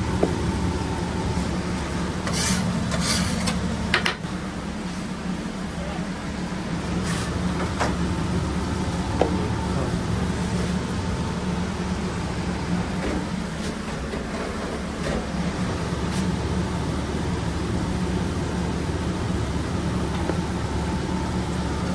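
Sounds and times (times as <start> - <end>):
kitchen machinery hum: 0.0 - 21.9.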